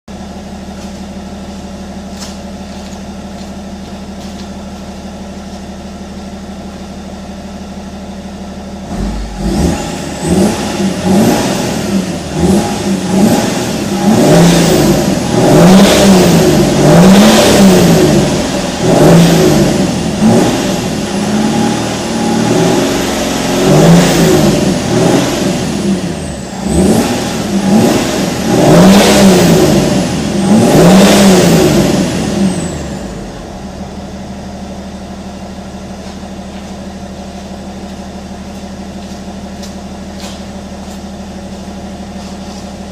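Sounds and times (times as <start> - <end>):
diesel engine idling and revving: 0.1 - 42.9.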